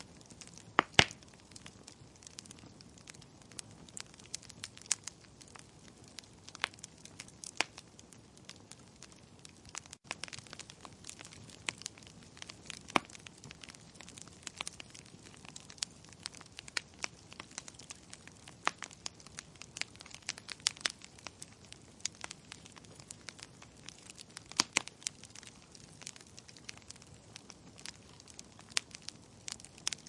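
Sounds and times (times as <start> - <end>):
logs crackling and popping: 0.0 - 30.0.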